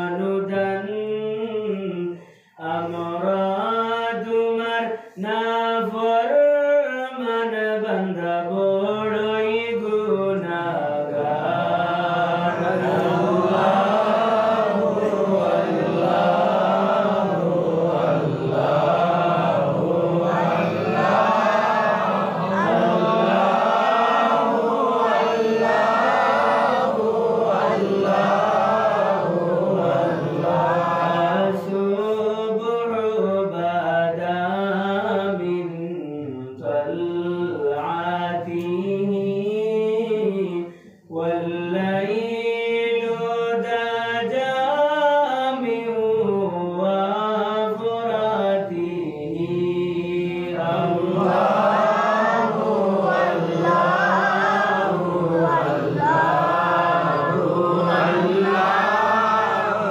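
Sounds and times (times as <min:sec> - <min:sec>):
devotional chanting: 0:00.0 - 0:59.9.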